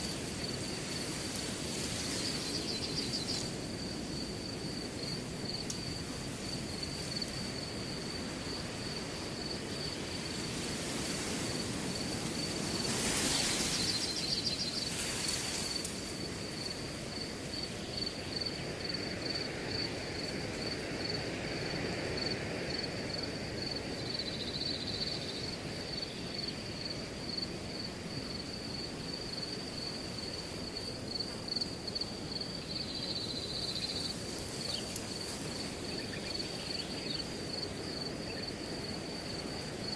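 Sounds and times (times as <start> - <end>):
cricket chirping: 0.0 - 39.9
wind through grass: 0.0 - 39.9.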